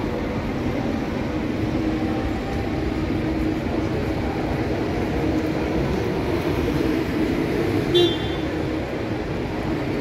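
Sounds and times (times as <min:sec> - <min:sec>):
bus rumbling: 0:00.0 - 0:10.0.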